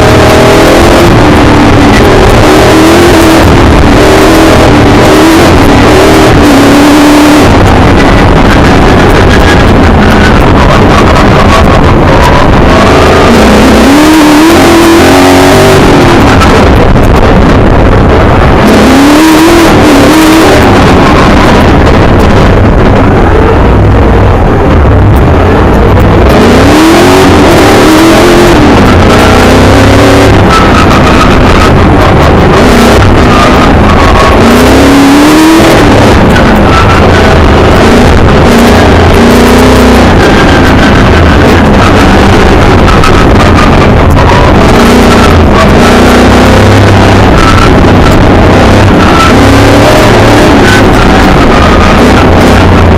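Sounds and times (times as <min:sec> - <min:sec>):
car engine revving: 0:00.0 - 0:52.9
road and wind noise: 0:00.0 - 0:52.9.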